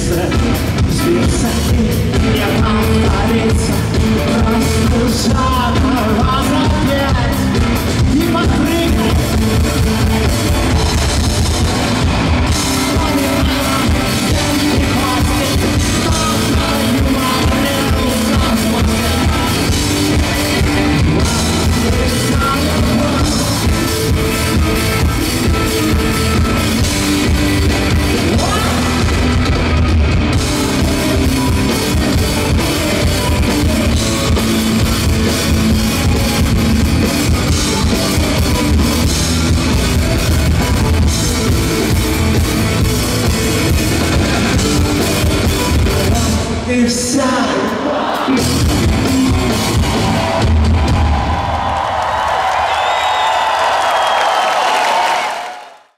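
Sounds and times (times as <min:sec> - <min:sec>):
man singing: 0:00.0 - 0:11.7, 0:12.5 - 0:29.6, 0:30.3 - 0:50.0
live rock band playing: 0:00.0 - 0:53.8.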